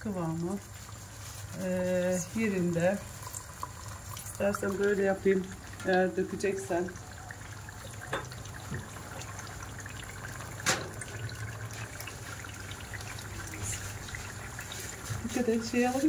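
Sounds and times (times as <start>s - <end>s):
beans boiling in water: 0.0s - 16.0s.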